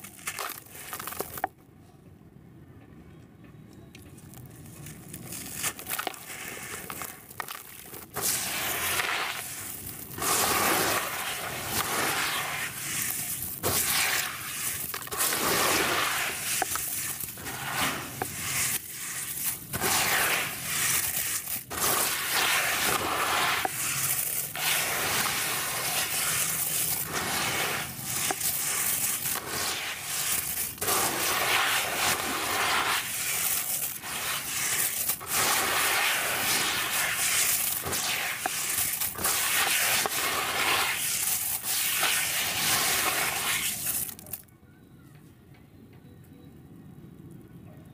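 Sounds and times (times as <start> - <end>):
wet gritty crunching and scraping: 0.0 - 1.6, 4.0 - 44.4.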